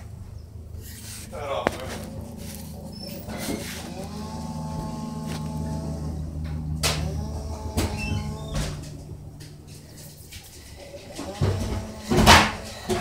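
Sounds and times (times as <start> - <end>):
engine running at low speed: 0.0 - 13.0.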